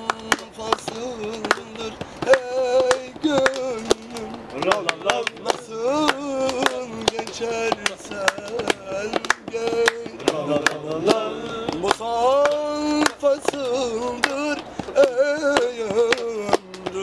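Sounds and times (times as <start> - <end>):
man singing unaccompanied: 0.0 - 17.0
sharp hand claps: 0.0 - 17.0.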